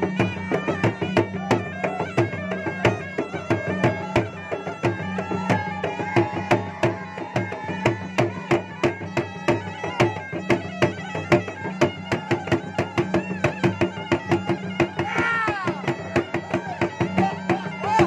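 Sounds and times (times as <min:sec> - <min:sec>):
drums beaten in fast rhythm: 0:00.0 - 0:18.0.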